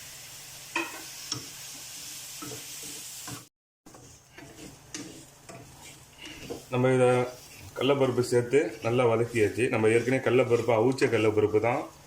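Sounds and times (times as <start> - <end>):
food sizzling in a pan: 0.0 - 12.0
spoon scraping and tapping pan: 0.7 - 1.6, 2.4 - 11.4.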